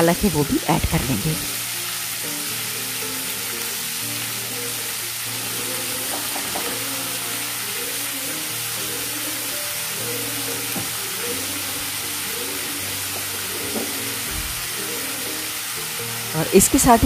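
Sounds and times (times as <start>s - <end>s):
background music with held notes: 0.0s - 17.0s
spinach sizzling in oil: 0.0s - 17.0s.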